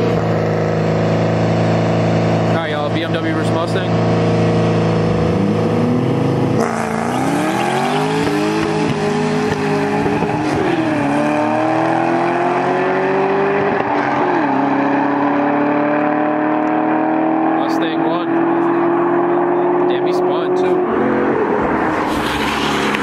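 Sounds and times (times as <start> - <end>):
car engines accelerating hard: 0.0 - 23.0.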